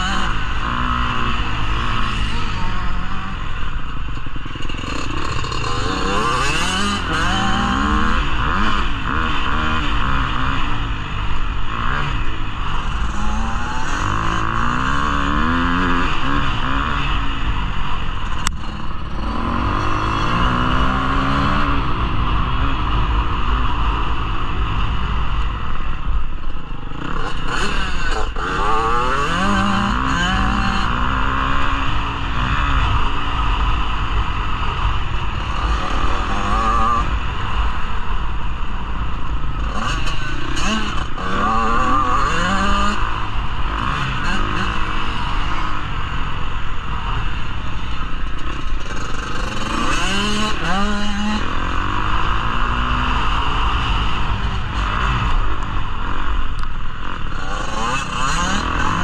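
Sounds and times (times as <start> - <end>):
dirt bike engine revving: 0.0 - 25.7, 26.7 - 38.2, 38.9 - 59.0.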